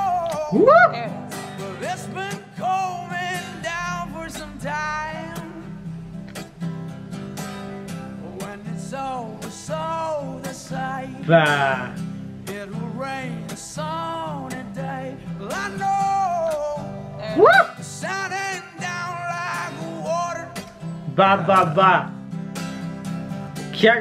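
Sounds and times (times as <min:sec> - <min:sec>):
man singing folk-country song: 0:00.0 - 0:05.9, 0:07.9 - 0:22.2, 0:23.6 - 0:24.0
strummed acoustic guitar: 0:00.0 - 0:24.0.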